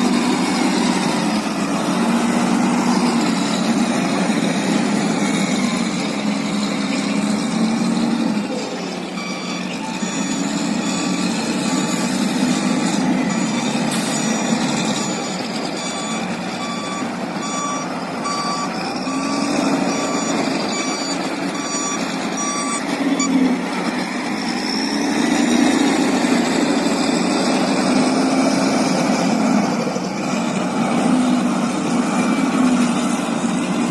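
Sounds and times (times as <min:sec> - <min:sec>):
reversing beeper: 0:00.0 - 0:28.9
engine droning: 0:00.0 - 0:33.9.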